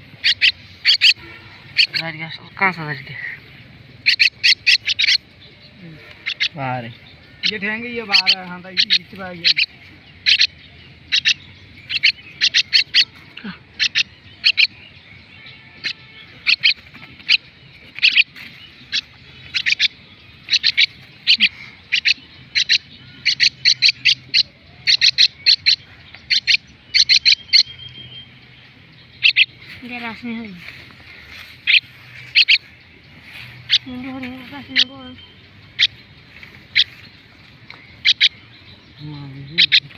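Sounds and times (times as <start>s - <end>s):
bird chicks begging calls: 0.0s - 39.9s.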